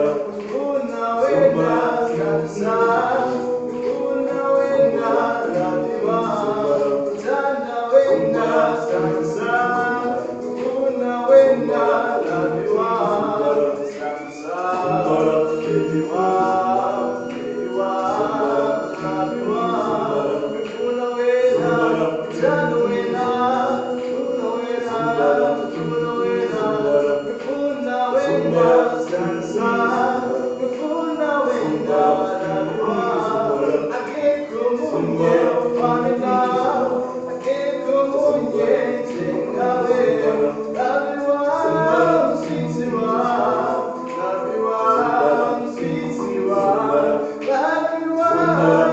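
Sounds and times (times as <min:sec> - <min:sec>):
a cappella choir singing: 0:00.0 - 0:48.9.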